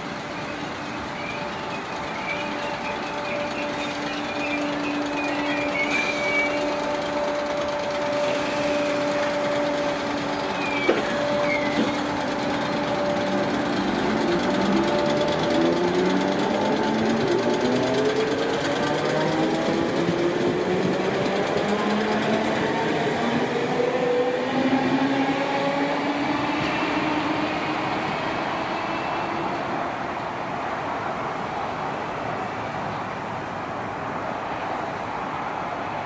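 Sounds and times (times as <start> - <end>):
train traction motors whining: 0.0 - 30.3
train wheels rumbling: 0.0 - 32.2.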